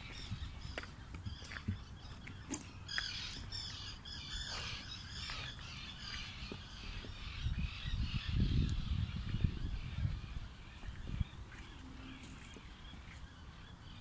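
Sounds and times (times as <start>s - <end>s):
birds chattering: 0.0s - 14.0s.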